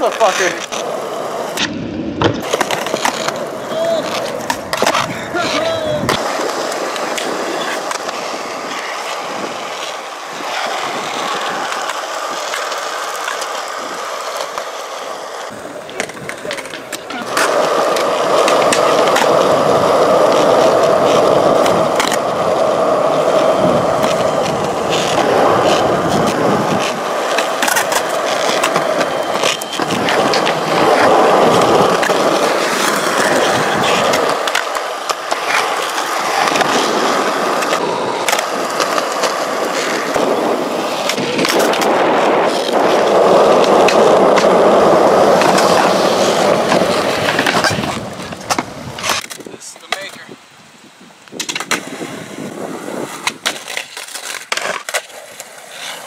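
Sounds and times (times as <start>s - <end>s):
skateboards clacking on ground: 0.0s - 50.4s, 51.3s - 56.0s
skateboard wheels rolling on concrete: 0.0s - 56.0s.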